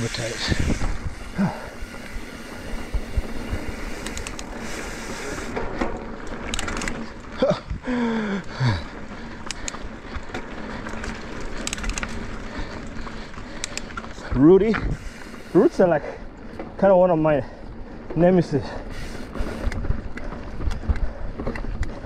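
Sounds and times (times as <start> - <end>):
bike rattling over bumps: 0.0 - 22.0
bike tyres rolling on dirt: 0.0 - 22.0.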